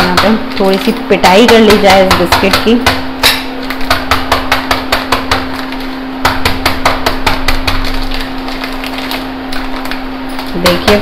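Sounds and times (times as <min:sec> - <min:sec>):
rolling pin knocking on biscuits: 0:00.0 - 0:09.9, 0:10.5 - 0:11.0
steady hum: 0:00.0 - 0:11.0.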